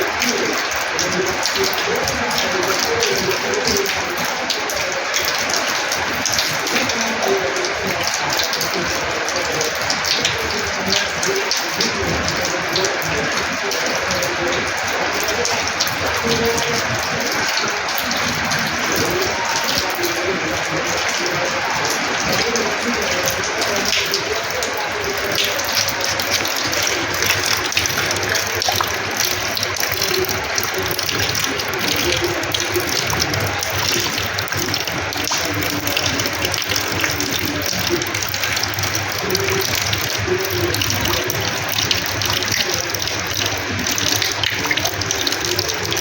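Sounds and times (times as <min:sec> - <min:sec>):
heavy rain splashing on floor: 0:00.0 - 0:46.0.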